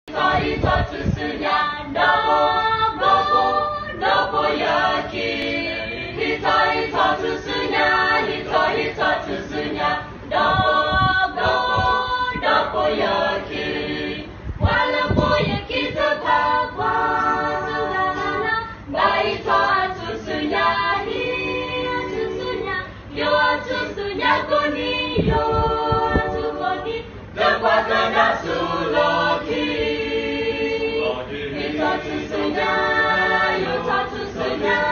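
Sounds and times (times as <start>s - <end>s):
group singing unaccompanied: 0.1s - 34.9s.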